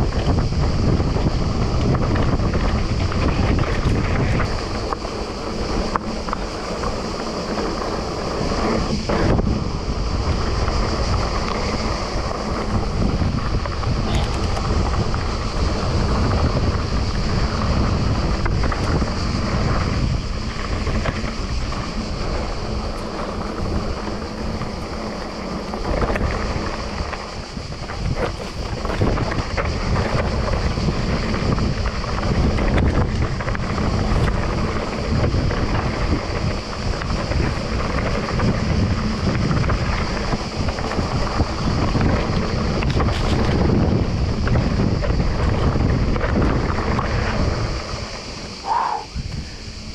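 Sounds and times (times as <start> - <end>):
bike knocks and rattles: 0.0 - 48.6
bike tyres rumbling on dirt trail: 0.0 - 49.9
wind buffeting microphone: 0.0 - 49.9.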